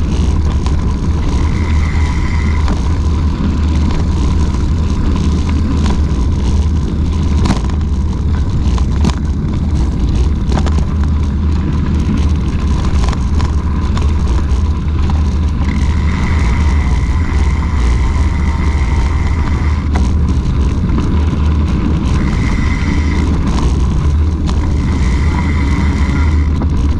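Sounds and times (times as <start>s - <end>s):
clicks and rattles: 0.0s - 26.9s
thin steady whine: 0.0s - 26.9s
tyres rolling on gravel: 0.0s - 26.9s
wind buffeting microphone: 0.0s - 26.9s.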